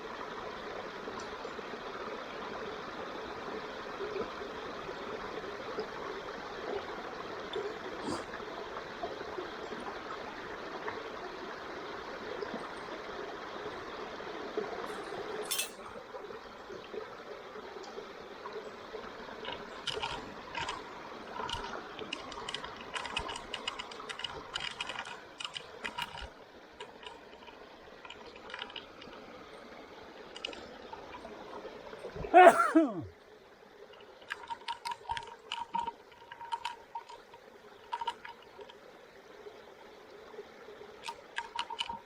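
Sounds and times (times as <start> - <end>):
running water: 0.0 - 42.0.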